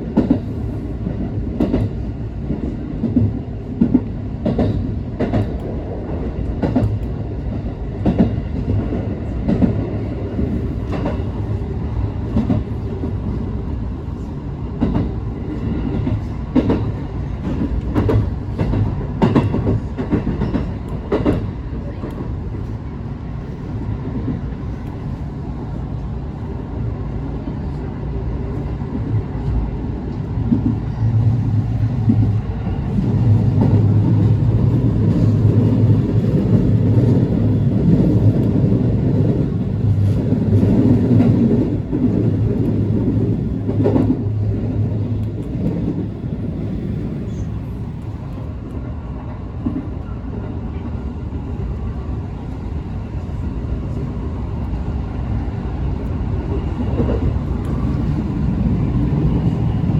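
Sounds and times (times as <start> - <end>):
electric train hum: 0.0 - 59.9
wheels rumbling on rails: 0.0 - 59.9.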